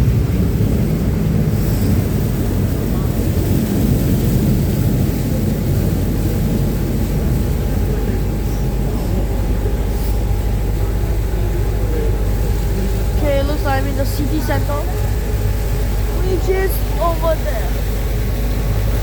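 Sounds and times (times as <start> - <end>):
boat engines droning: 0.0 - 19.0
rushing wind and water: 0.0 - 19.0
thin steady whine: 0.0 - 19.0.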